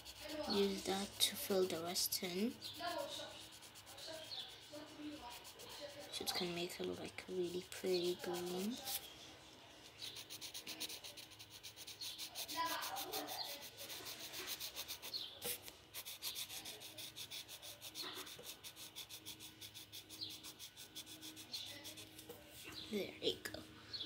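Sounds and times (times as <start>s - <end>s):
pencil scratching on paper: 0.0s - 9.1s, 9.8s - 23.1s.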